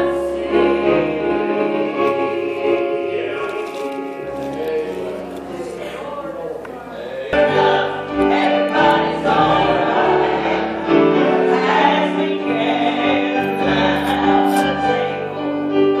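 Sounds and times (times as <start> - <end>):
women singing gospel in harmony: 0.0 - 4.7, 7.4 - 16.0.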